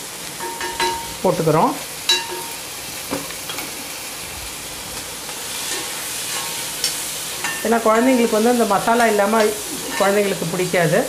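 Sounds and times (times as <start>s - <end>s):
chickpeas sizzling in oil: 0.0s - 11.0s.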